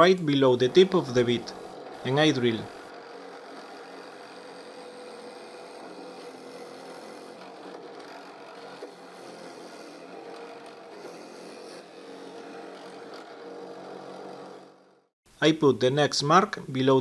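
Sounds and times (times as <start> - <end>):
drill bit cutting wood: 0.0 - 15.1
drill press motor hum: 0.0 - 15.1.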